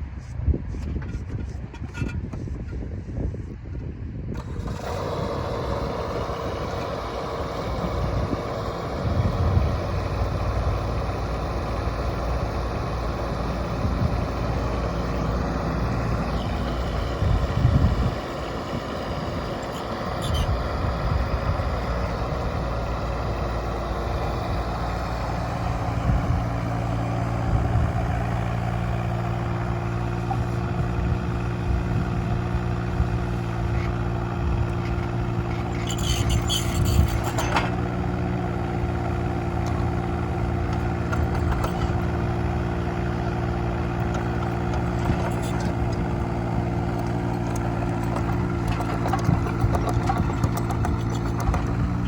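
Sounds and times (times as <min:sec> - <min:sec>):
excavator diesel engine running: 0:04.3 - 0:52.0.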